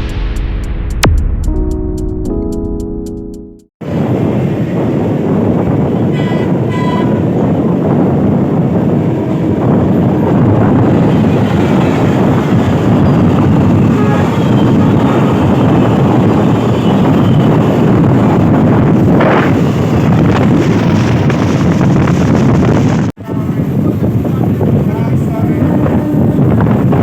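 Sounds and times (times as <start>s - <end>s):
train wheels rumbling on track: 3.8s - 27.0s
wind buffeting microphone: 3.8s - 27.0s.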